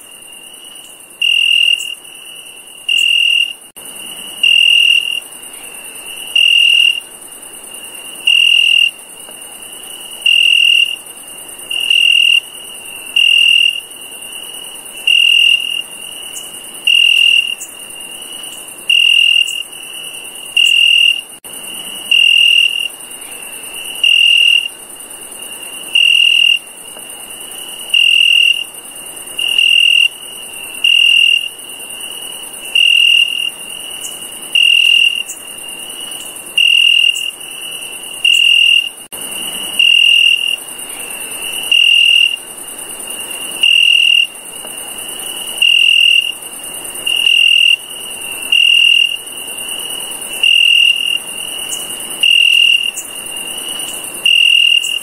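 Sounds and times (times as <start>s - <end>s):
constant high hiss: 0.0s - 55.0s
cricket chirping: 0.0s - 55.0s.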